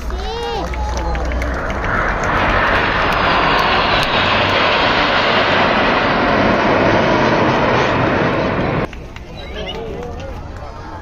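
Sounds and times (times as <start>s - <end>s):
fighter jets flying past: 0.0s - 10.0s.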